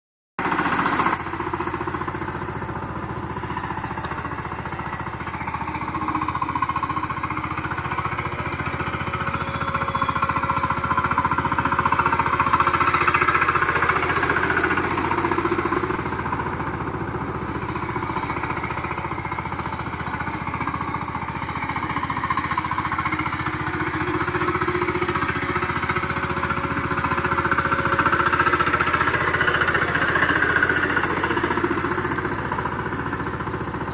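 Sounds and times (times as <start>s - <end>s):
diesel tiller engine chugging: 0.4s - 33.9s.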